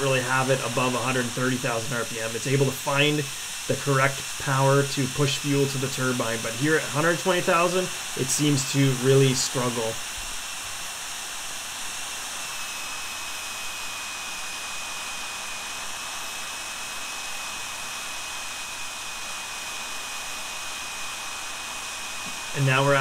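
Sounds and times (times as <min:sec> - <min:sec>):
turbine engine high whine: 0:00.0 - 0:23.0.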